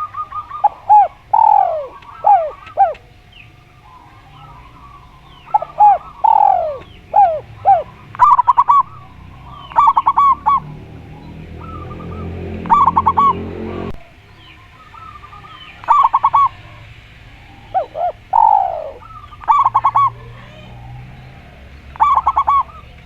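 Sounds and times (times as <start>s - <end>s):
low hum: 0.0s - 20.1s
doves cooing: 0.0s - 23.0s.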